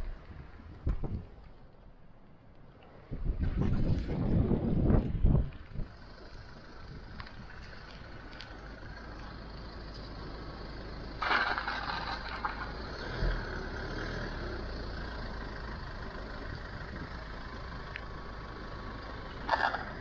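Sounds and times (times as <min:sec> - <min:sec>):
car rumbling on wet road: 0:00.0 - 0:20.0
tyres swishing on wet road: 0:00.0 - 0:20.0.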